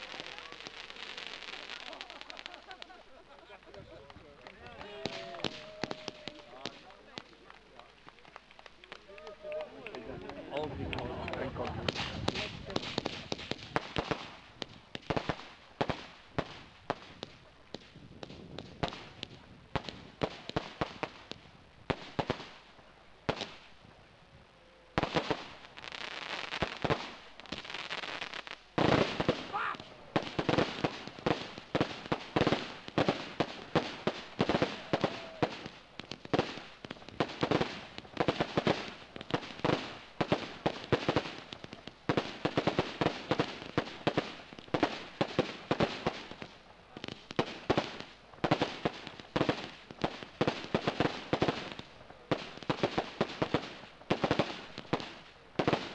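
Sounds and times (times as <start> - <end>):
fireworks cracking and banging: 0.0 - 55.9.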